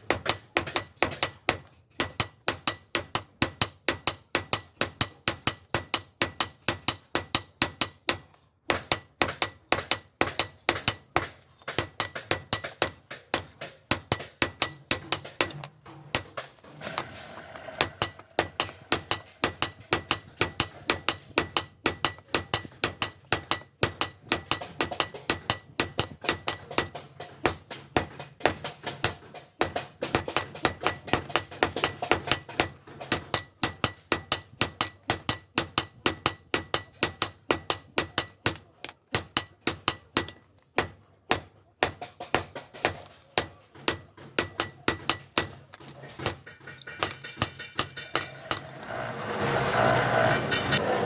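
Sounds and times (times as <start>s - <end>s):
hammer striking steel on anvil: 0.0s - 51.0s.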